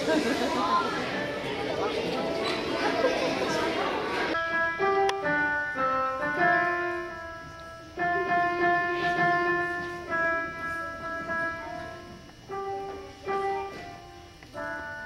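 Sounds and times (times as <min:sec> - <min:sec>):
digital piano chords: 0:00.0 - 0:15.0.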